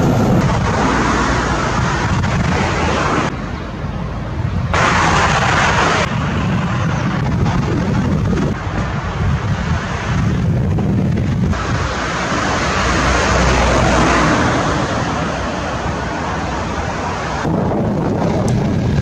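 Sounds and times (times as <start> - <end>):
street noise rumble: 0.0 - 19.0
wind buffeting microphone: 0.0 - 19.0.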